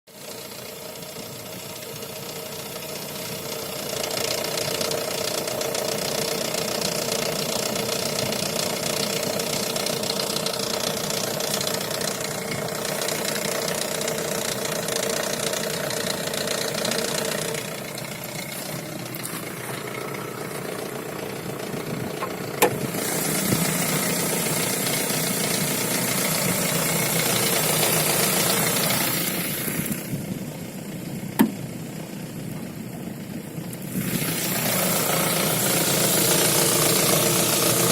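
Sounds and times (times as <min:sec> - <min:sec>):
car engine drone: 0:00.1 - 0:37.9.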